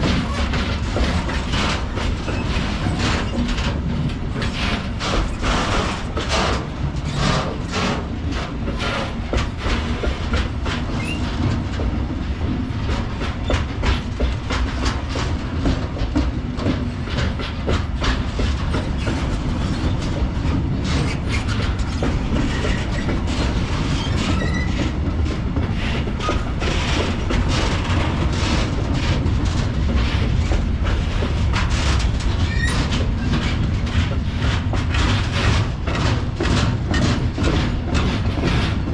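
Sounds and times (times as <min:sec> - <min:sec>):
train low rumble: 0:00.0 - 0:38.9
wheels clicking over rail joints: 0:00.0 - 0:38.9.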